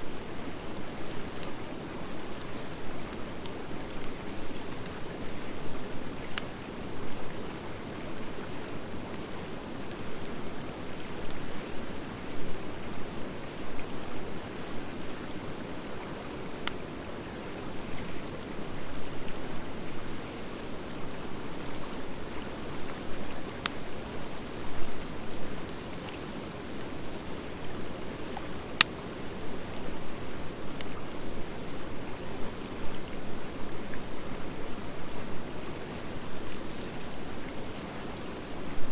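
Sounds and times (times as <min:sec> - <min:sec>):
wood fire burning: 0:00.0 - 0:38.9.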